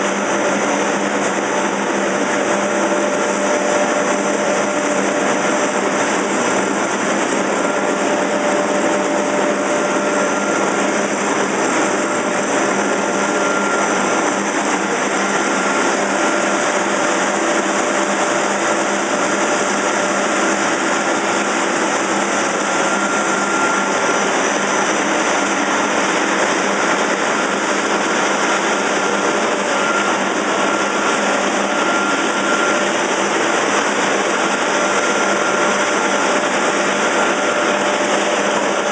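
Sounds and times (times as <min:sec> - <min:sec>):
loud steady machine noise: 0:00.0 - 0:38.9.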